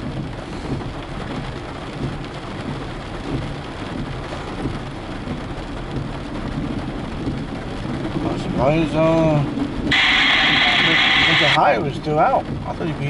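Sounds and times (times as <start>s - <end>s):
rain pattering on a car: 0.0s - 13.0s
road noise rumble: 0.0s - 13.0s.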